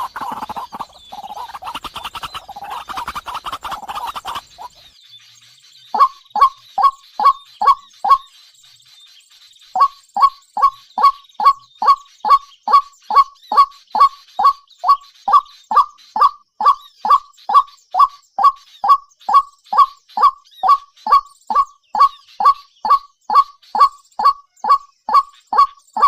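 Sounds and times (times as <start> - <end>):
bird call with falling notes: 0.0 - 4.9, 5.9 - 8.3, 9.7 - 26.0.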